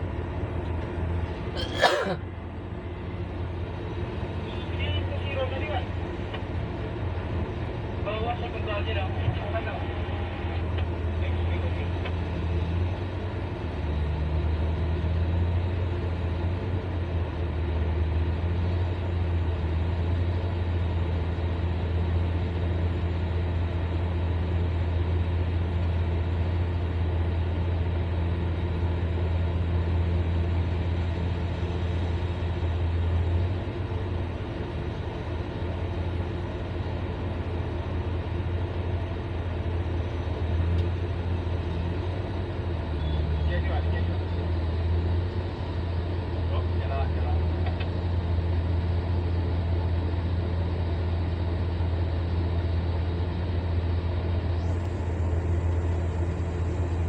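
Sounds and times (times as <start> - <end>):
excavator diesel engine drone: 0.0 - 57.0.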